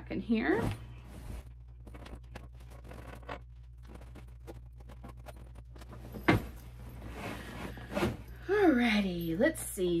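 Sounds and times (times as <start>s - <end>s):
fabric and bag rustling: 0.3s - 9.0s.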